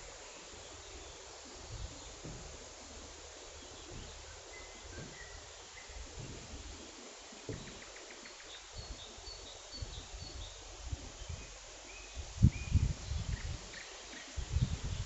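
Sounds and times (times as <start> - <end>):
wind rumble on microphone: 0.0 - 7.9, 8.5 - 15.0
small songbirds chirping: 0.0 - 15.0.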